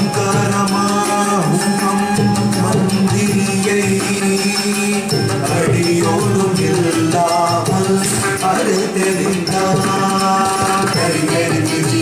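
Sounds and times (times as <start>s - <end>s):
ankle bells jingling: 0.0s - 12.0s
hand drum percussion: 0.0s - 12.0s.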